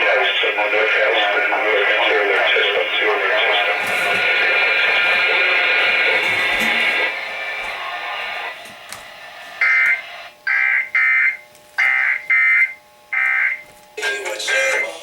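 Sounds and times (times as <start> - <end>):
buzzy warbling digital data bursts: 0.0 - 13.7
program audio: 0.0 - 15.0.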